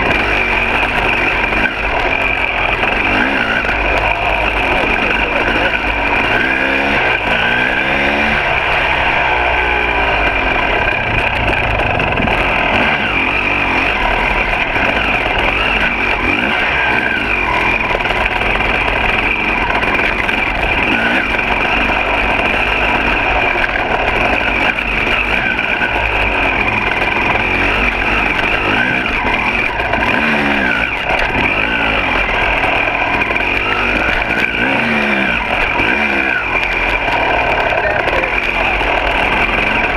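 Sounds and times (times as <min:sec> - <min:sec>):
dirt bike engine revving: 0:00.0 - 0:39.9
steady rushing background: 0:00.0 - 0:39.9.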